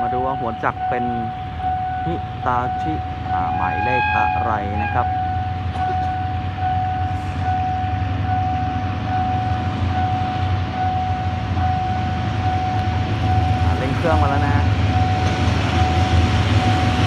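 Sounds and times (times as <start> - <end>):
level-crossing warning bell: 0.0 - 17.0
low engine rumble: 0.0 - 17.0.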